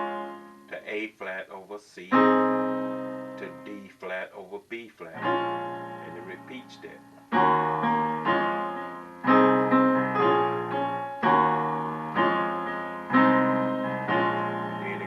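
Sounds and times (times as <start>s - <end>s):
piano chords: 0.0s - 1.4s, 2.0s - 3.9s, 5.1s - 15.0s.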